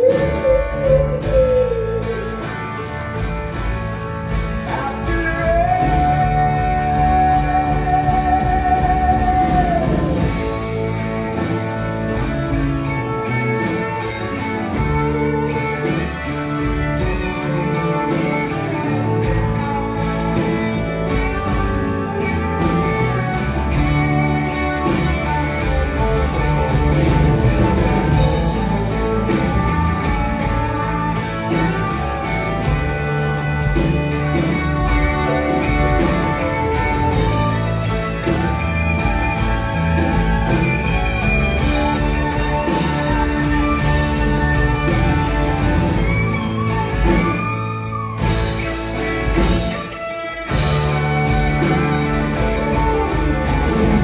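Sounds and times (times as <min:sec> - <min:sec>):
live country-rock band playing: 0:00.0 - 0:54.0.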